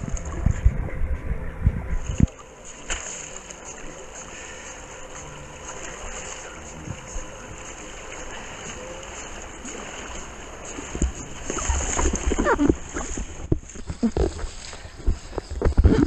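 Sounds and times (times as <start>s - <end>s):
water rushing past a board: 0.0s - 16.0s
water splashing and gurgling: 0.0s - 16.0s.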